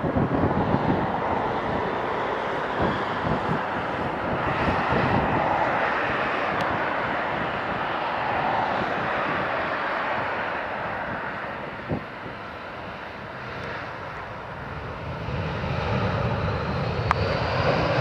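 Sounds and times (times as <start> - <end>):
jet engine rumble: 0.0 - 18.0
wind buffeting microphone: 0.0 - 18.0.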